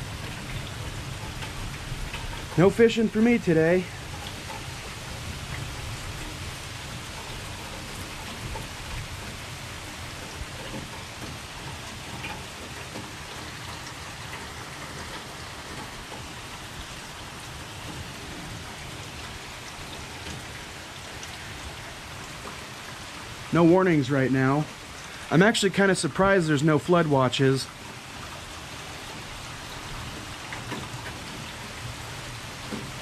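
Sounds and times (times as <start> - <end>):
raindrops ticking on surfaces: 0.0 - 33.0
steady rain hiss: 0.0 - 33.0.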